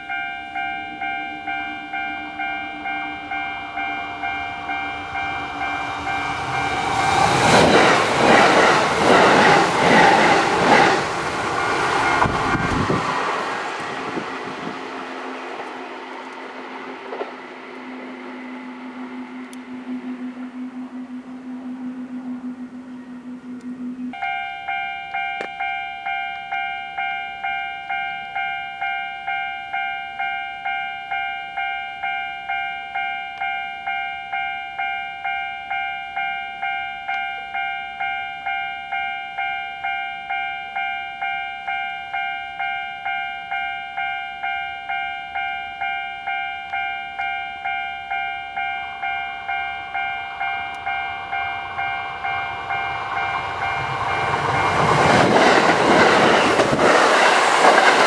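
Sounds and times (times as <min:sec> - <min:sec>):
level crossing warning bell: 0:00.0 - 0:15.7, 0:17.1 - 0:58.0
approaching train: 0:00.0 - 0:58.0.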